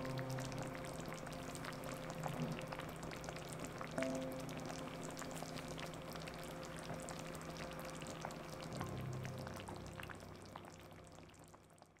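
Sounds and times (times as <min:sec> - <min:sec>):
low steady hum: 0:00.0 - 0:12.0
pot bubbling: 0:00.0 - 0:12.0.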